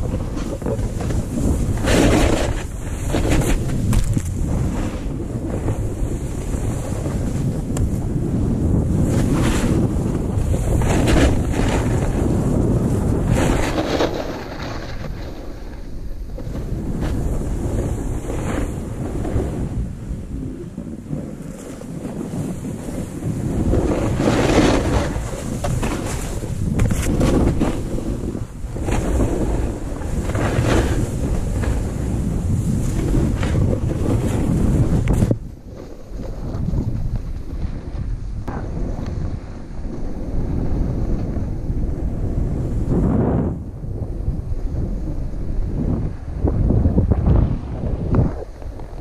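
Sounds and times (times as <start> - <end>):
snowboard swishing through snow: 0.0 - 49.0
wind buffeting microphone: 0.0 - 49.0.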